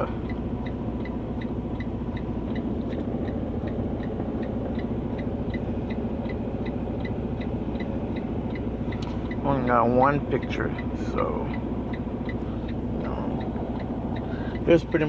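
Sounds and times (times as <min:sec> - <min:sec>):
diesel engine idling: 0:00.0 - 0:15.0
light engine ticking: 0:00.0 - 0:15.0.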